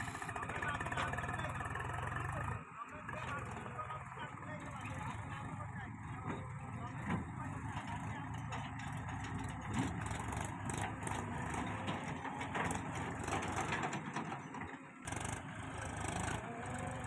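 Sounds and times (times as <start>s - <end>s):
backhoe loader diesel engine: 0.0s - 17.0s
tractor driving: 0.0s - 17.0s.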